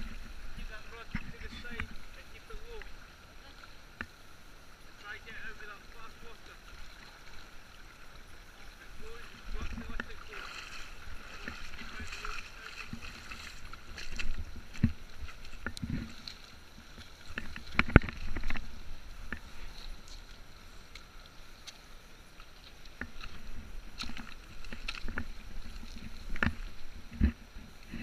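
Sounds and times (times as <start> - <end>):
low water rumble: 0.0 - 28.0
river water lapping and splashing: 0.0 - 28.0.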